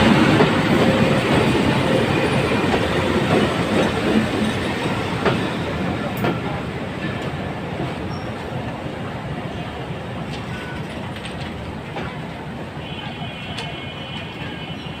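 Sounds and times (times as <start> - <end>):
train clanks: 0.0 - 8.8, 9.5 - 15.0
train wheels rumbling on rails: 0.0 - 15.0.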